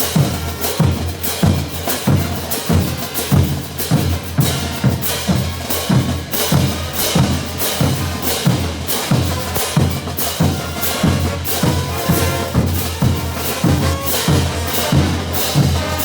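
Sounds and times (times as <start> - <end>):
bass drum and cymbals beating: 0.0 - 16.0
brass band chords: 0.0 - 16.0.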